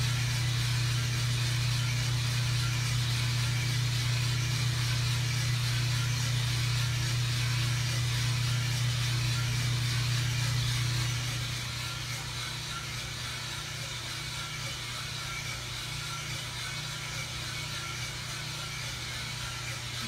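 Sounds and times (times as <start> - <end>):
coffee roaster humming: 0.0 - 20.0.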